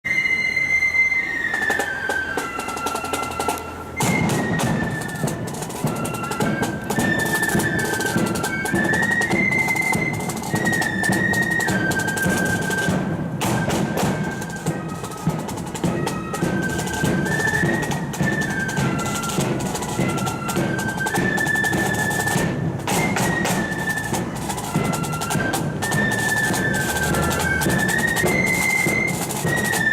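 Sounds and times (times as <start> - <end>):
flute melody: 0.0 - 29.9
snare and bass drums: 2.8 - 29.9.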